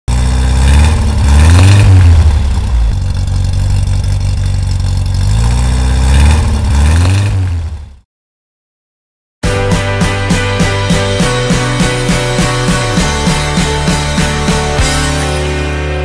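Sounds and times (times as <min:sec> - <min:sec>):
vehicle engine revving and idling: 0:00.1 - 0:08.0, 0:10.6 - 0:16.0.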